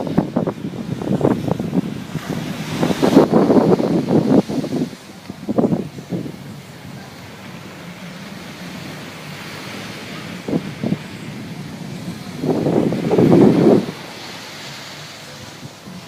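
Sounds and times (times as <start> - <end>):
sea rushing: 0.0 - 16.0
wind buffeting microphone: 0.0 - 16.0
wind gusts: 0.0 - 16.0.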